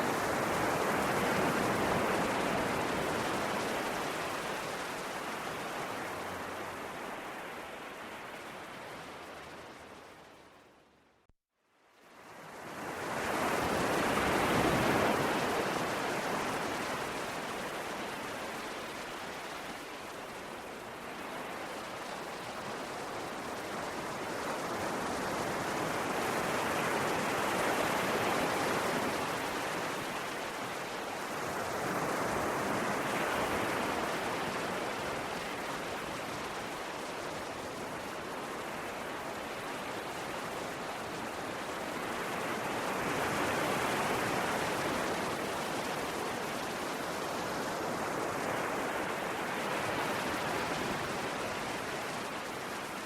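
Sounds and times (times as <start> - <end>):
sea waves washing ashore: 0.0 - 10.6, 12.1 - 53.0.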